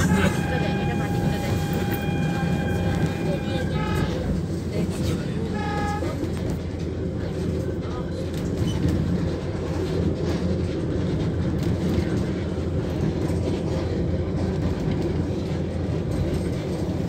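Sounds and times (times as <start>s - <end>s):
train carriage rumble and rattle: 0.0s - 17.0s.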